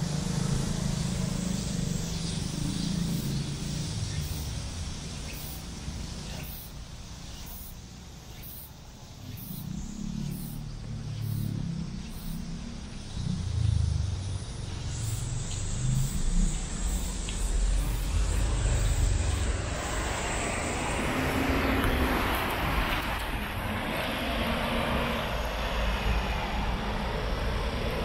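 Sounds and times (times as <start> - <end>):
low engine rumble: 0.0 - 8.2, 8.9 - 28.0.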